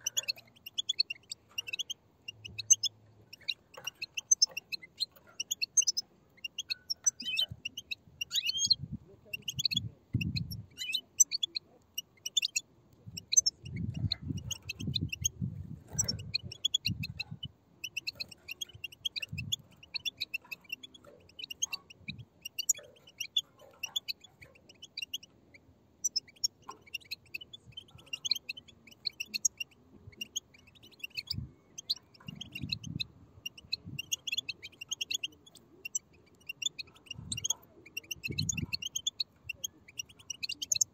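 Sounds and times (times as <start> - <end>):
chicks chirping: 0.0 - 40.9.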